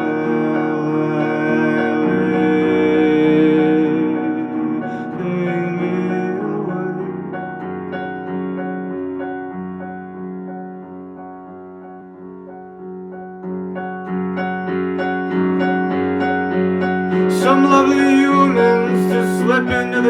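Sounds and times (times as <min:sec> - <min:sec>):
piano playing repeated chords: 0:00.0 - 0:20.0.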